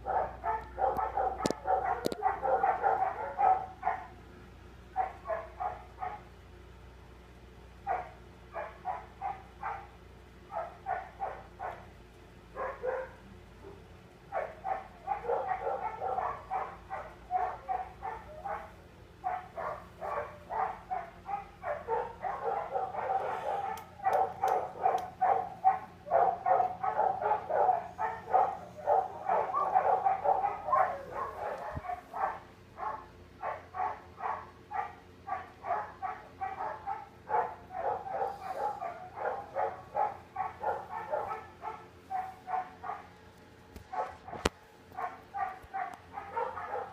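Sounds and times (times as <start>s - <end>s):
dog barking: 0.0s - 4.2s, 5.0s - 6.3s, 7.8s - 11.9s, 12.5s - 43.2s, 43.9s - 46.9s.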